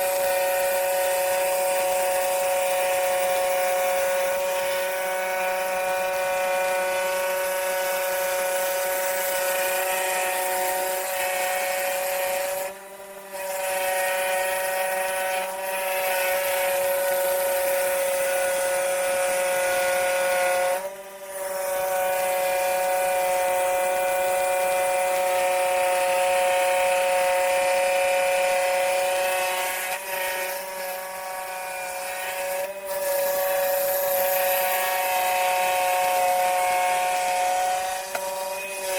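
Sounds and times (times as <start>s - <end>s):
scroll saw cutting wood: 0.0s - 38.9s.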